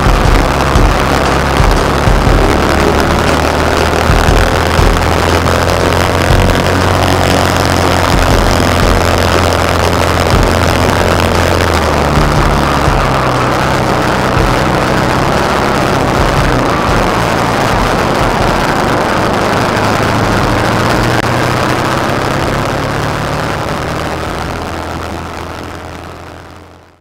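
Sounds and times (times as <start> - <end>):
kart engines running: 0.0 - 27.0.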